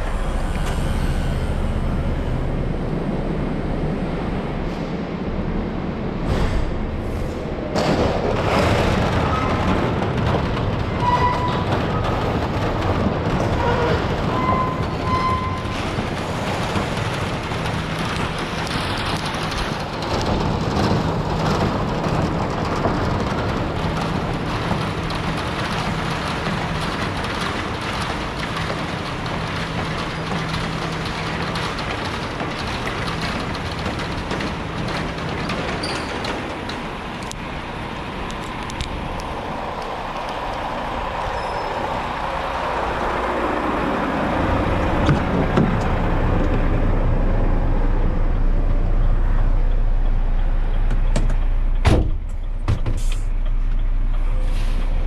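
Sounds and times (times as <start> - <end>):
truck diesel engine: 0.0 - 10.3, 11.4 - 55.0
road noise: 0.0 - 55.0.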